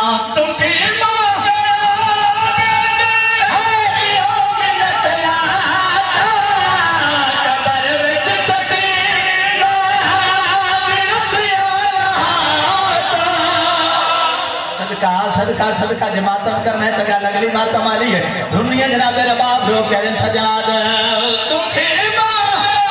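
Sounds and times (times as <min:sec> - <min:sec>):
man chanting through sound system: 0:00.0 - 0:22.9.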